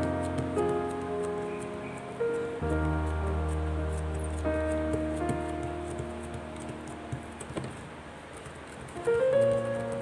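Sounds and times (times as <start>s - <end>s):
instrumental background music: 0.0s - 7.7s, 9.0s - 10.0s.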